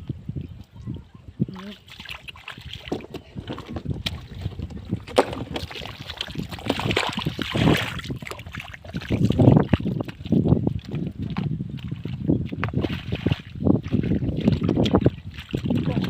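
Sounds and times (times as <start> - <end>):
muddy water sloshing and splashing: 0.4 - 16.0.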